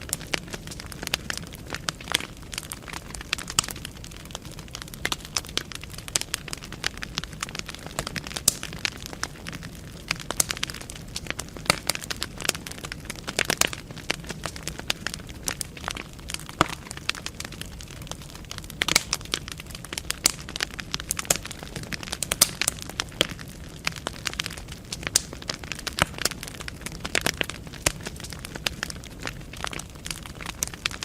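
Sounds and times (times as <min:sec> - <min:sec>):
logs crackling and popping: 0:00.0 - 0:31.0
low steady fire hiss: 0:00.0 - 0:31.0.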